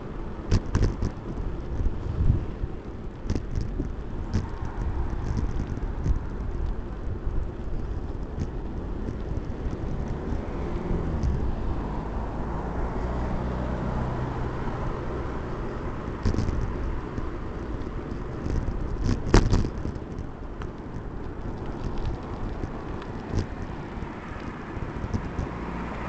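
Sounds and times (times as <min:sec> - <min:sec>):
bike rattling: 0:00.0 - 0:26.0
low engine hum: 0:00.0 - 0:26.0
wind on microphone: 0:00.0 - 0:26.0.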